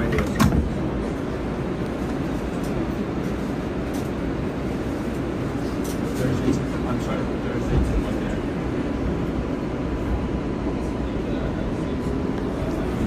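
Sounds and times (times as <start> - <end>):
subway car low rumble: 0.0 - 13.0.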